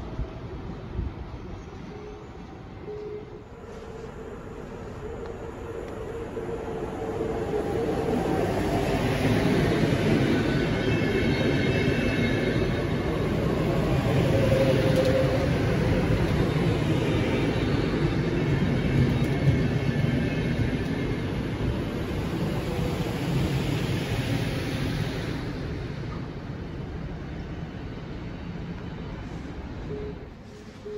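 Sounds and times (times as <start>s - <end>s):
train wheels rumbling on rails: 3.5s - 30.9s.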